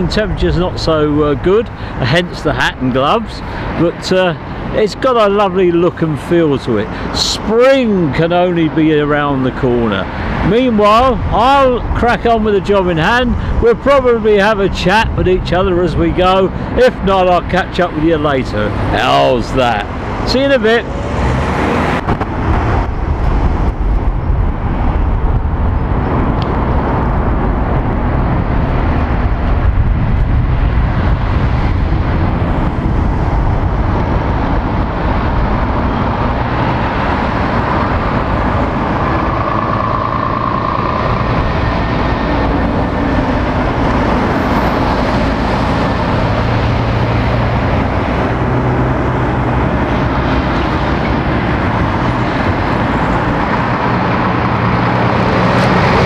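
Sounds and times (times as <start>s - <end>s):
cars passing: 0.0s - 56.0s
lorry diesel engines: 0.0s - 56.0s.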